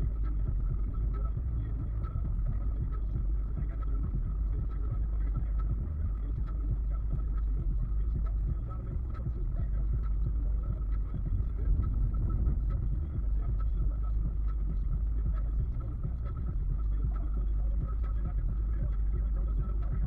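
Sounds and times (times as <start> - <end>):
faint steady whine: 0.0 - 20.0
car driving on highway: 0.1 - 19.1.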